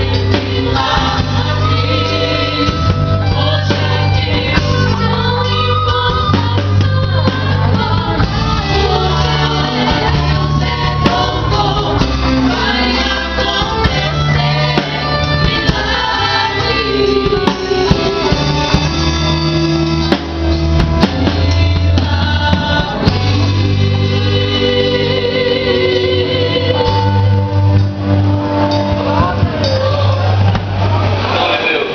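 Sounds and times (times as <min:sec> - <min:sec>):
voices singing gospel song: 0:00.0 - 0:19.5, 0:20.9 - 0:27.7, 0:28.8 - 0:31.9
band with bass and percussion: 0:00.0 - 0:31.9.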